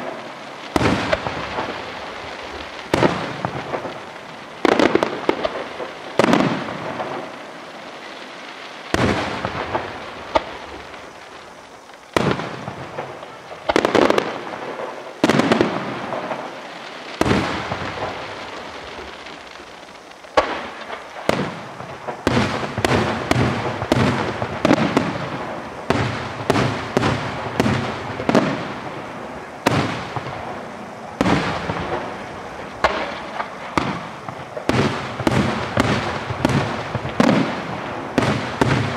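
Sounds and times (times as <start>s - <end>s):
fireworks bursting with bangs: 0.0s - 38.9s.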